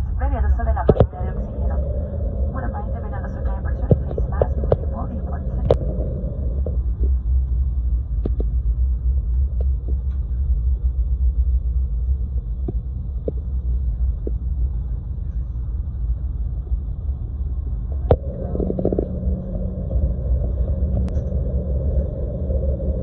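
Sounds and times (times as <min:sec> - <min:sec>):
jet airliner cabin rumble: 0:00.0 - 0:23.0
steady hum: 0:00.0 - 0:23.0.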